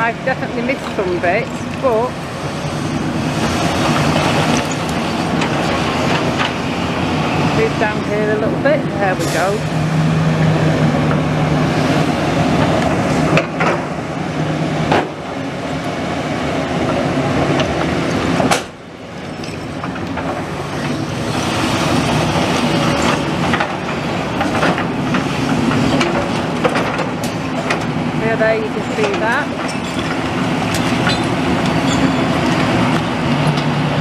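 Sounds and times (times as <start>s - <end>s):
diesel engine hum: 0.0s - 34.0s.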